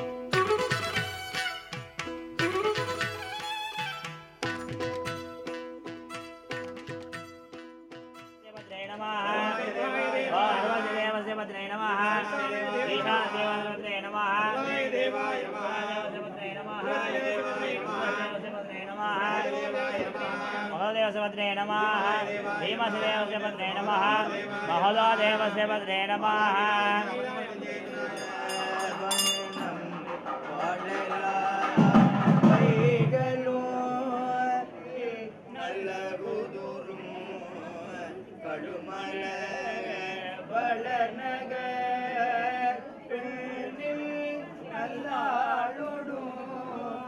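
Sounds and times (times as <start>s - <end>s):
men chanting together: 9.2s - 47.0s.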